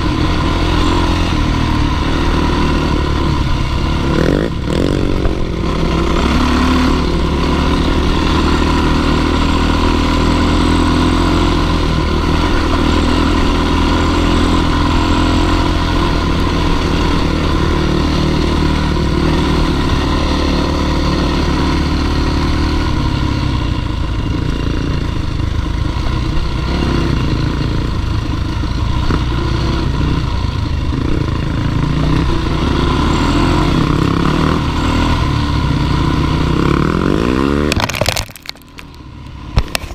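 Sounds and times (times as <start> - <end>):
dirt bike engine climbing: 0.0 - 39.9.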